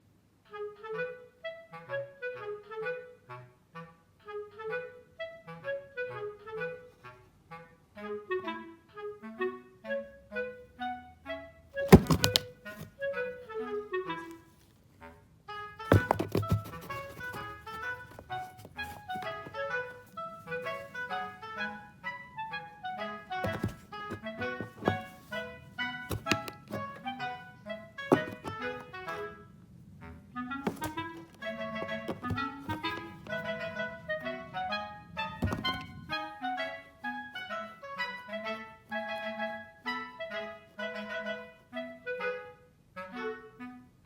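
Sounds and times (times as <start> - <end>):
bouncy clarinet-like woodwind melody: 0.4 - 44.0.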